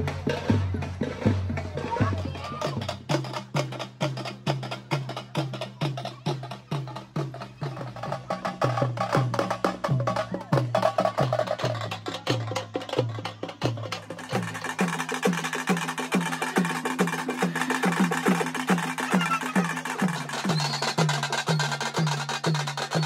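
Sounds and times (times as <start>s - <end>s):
sharp clicking drum strokes: 0.0s - 23.0s.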